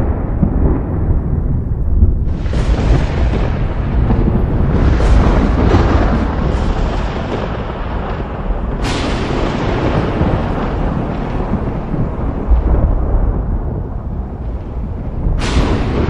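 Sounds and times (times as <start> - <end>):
sharp thunder crack: 0.0 - 16.0
thunder rumbling: 0.0 - 16.0.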